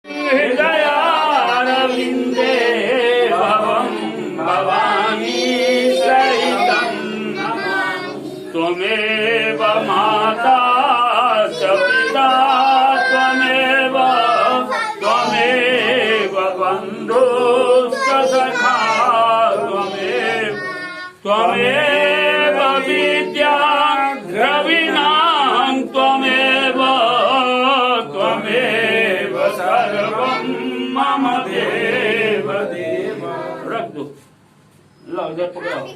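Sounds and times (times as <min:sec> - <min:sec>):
group of voices chanting hymns: 0:00.0 - 0:34.2.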